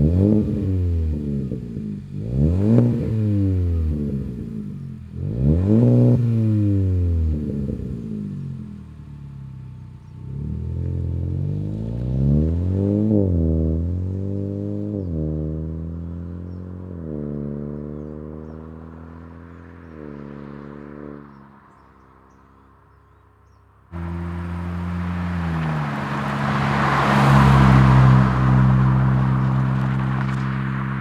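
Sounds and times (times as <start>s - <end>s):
car engine revving: 0.0s - 21.4s, 24.0s - 31.0s
car exhaust note while driving: 0.0s - 31.0s
road and wind noise: 0.0s - 31.0s.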